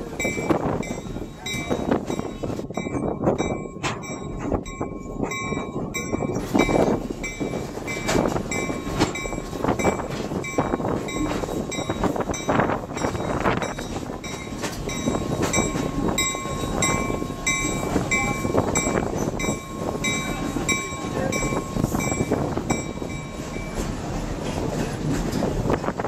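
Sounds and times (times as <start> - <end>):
train rolling rumble: 0.0 - 26.0.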